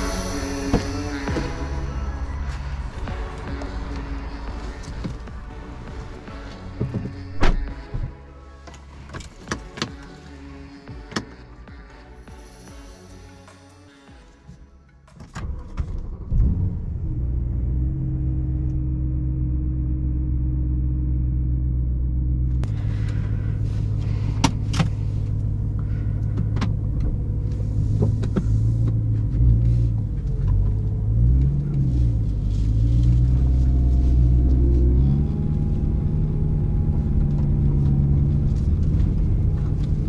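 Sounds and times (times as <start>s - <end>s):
car engine starting and idling: 0.0s - 40.0s.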